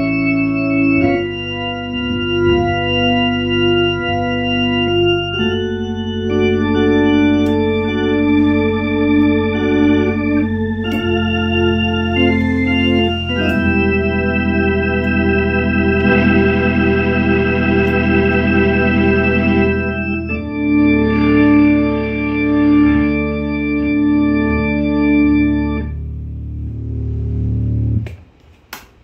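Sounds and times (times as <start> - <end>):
organ playing sustained chords: 0.0 - 28.0
organ low bass: 0.0 - 28.4.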